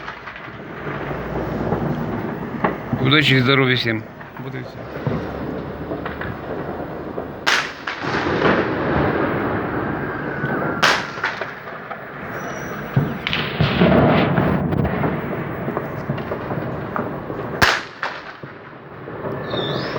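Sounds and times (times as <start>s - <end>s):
distant fireworks crackling: 0.0s - 19.9s
firework bangs: 0.0s - 19.9s.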